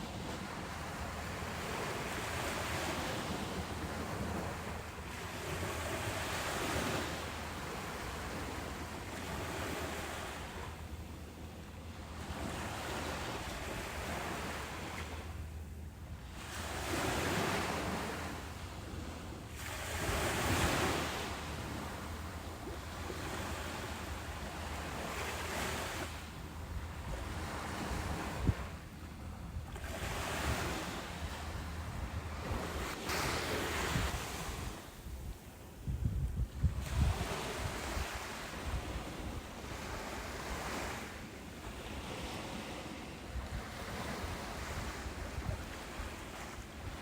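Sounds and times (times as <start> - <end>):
ocean waves breaking on beach: 0.0 - 35.8, 36.4 - 47.0.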